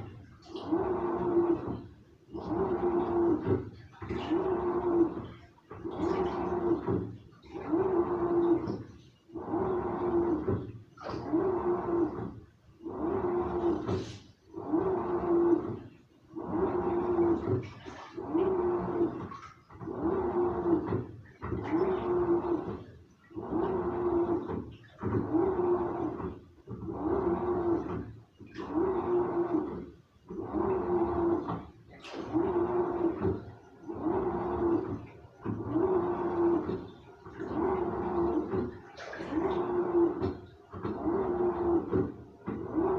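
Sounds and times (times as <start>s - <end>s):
washing machine motor humming: 0.0s - 42.9s
water and laundry sloshing: 0.0s - 42.9s.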